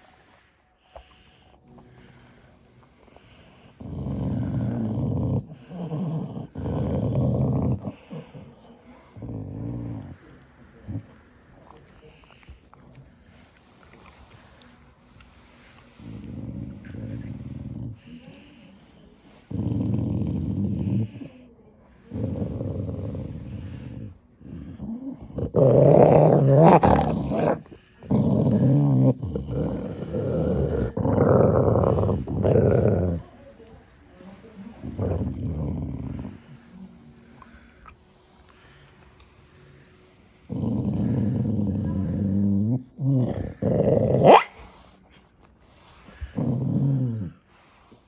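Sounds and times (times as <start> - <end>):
dog growling: 3.1 - 14.2, 15.5 - 33.4, 34.8 - 38.0, 40.4 - 44.9, 45.8 - 47.7.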